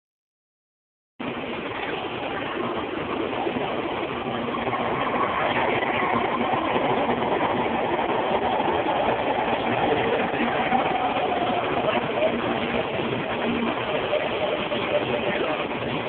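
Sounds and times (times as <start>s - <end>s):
train rushing rumble: 1.2s - 16.0s.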